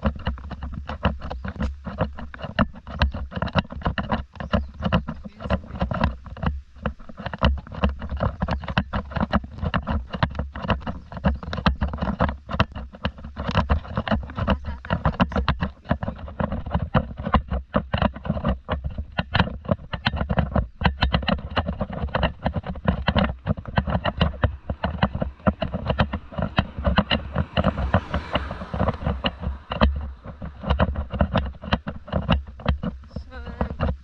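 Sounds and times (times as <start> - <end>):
distorted knocks and crackles: 0.0 - 34.0
microphone handling rumble: 0.0 - 34.0.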